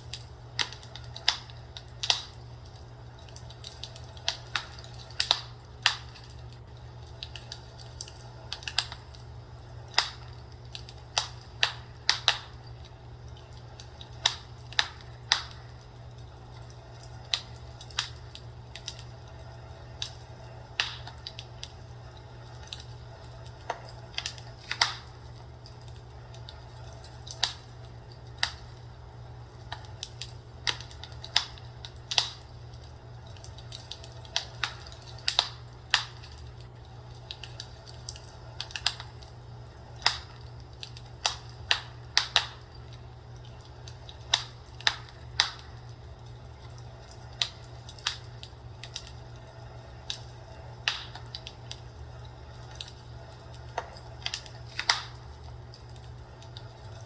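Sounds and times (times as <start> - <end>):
fireplace crackling: 0.0 - 57.0.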